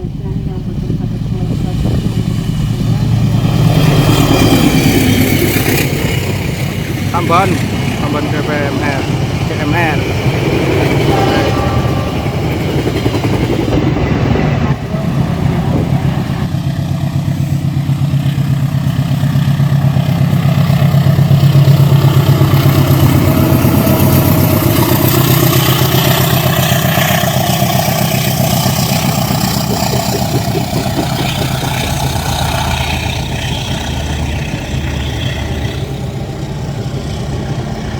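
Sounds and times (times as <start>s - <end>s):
diesel locomotive engine hum: 0.0s - 37.9s
train wheels clattering on rails: 0.0s - 37.9s.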